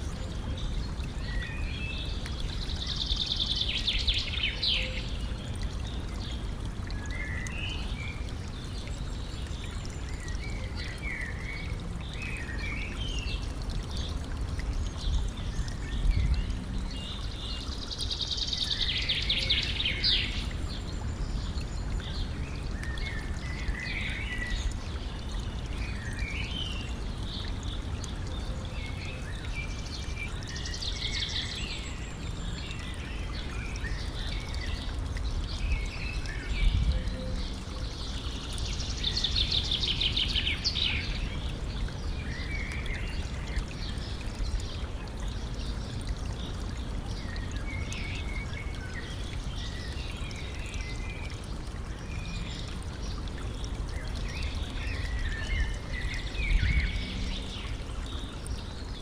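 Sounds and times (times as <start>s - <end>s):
songbirds trilling and chirping: 0.0s - 59.0s
stream trickling: 0.0s - 59.0s.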